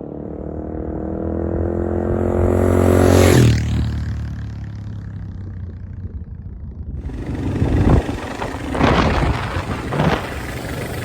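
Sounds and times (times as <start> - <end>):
motorcycle ride rumble: 0.0 - 11.0.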